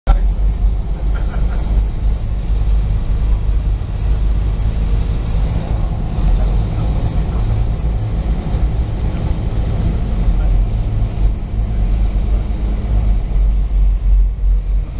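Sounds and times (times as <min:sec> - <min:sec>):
ferry engines rumbling: 0:00.1 - 0:14.9
water rushing in wake: 0:00.1 - 0:14.9.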